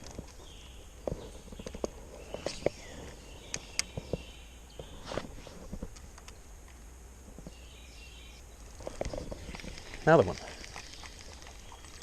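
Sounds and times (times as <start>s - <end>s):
footsteps and handling on creek bank: 0.0s - 7.7s, 8.4s - 12.0s
faint outdoor rumble: 0.0s - 12.0s.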